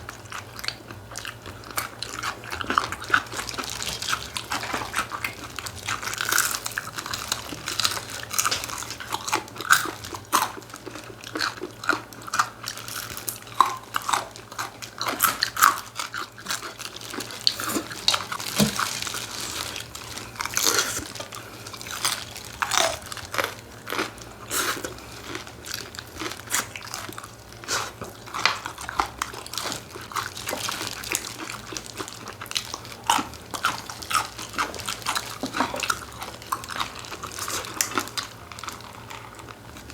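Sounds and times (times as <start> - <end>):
crunching and chewing chicken: 0.0 - 39.9.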